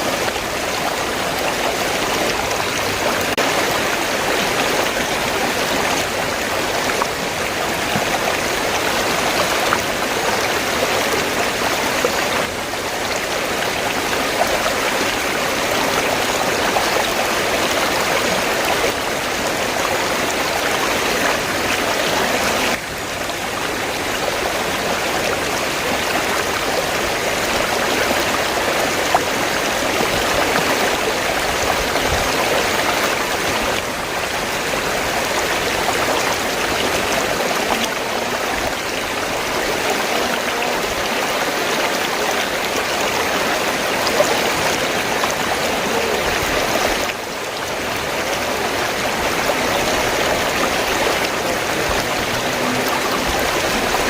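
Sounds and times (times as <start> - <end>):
river water splashing over rocks: 0.0 - 54.0.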